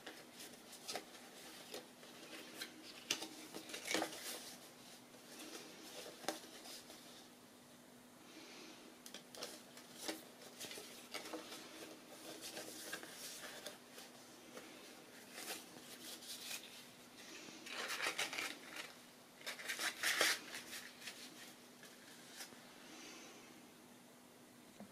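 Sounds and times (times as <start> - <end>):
paper rustling and crinkling: 0.0 - 7.3, 9.1 - 22.6.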